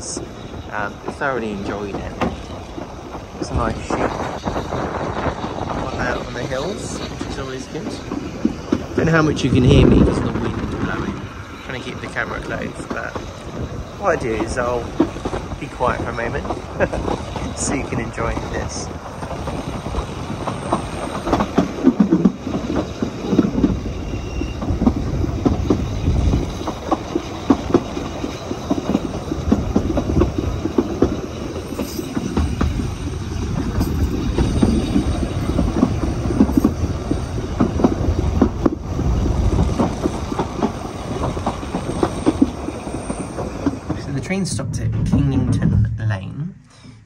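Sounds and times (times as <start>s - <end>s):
train clicks and rattles: 0.0s - 46.2s
train wheels rumbling on rails: 0.0s - 47.0s.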